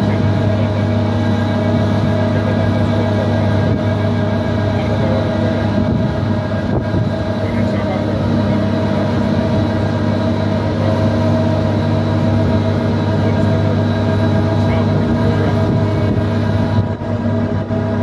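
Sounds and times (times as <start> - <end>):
crane diesel engine running: 0.0 - 18.0.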